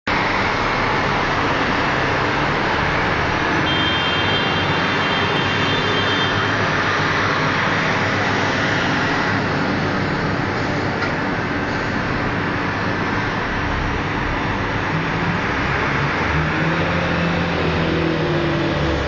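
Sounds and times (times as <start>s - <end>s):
road traffic: 0.1s - 19.0s.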